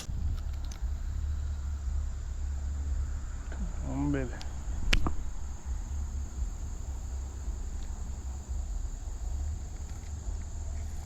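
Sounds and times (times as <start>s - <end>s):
insects chirring: 0.0s - 11.0s
low rumble on microphone: 0.0s - 11.0s.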